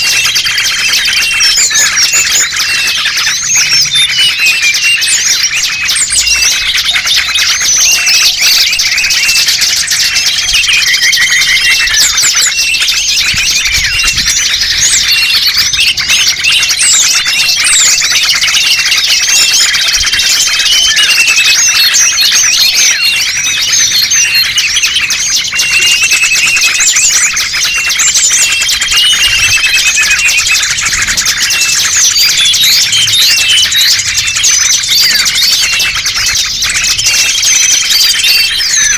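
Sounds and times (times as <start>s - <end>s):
chorus of small birds chirping: 0.0s - 38.9s.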